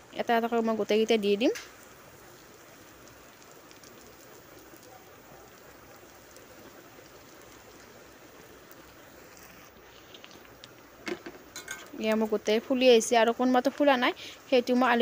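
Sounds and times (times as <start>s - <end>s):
puris frying in hot oil: 0.0s - 15.0s.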